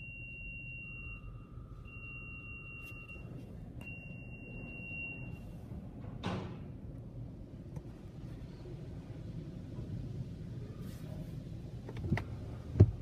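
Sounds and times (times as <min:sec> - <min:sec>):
low rumble inside car wash: 0:00.0 - 0:13.0.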